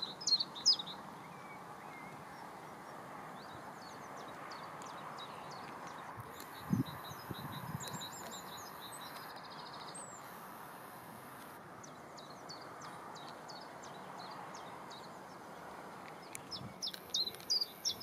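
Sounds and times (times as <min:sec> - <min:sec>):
small songbirds singing: 0:00.0 - 0:18.0
steady background hiss: 0:00.0 - 0:18.0.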